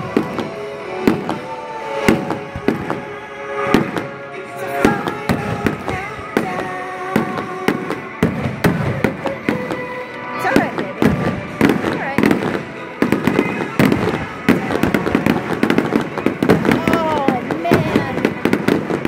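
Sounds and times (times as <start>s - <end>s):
fireworks bangs: 0.0s - 19.0s
music playing: 0.0s - 19.0s.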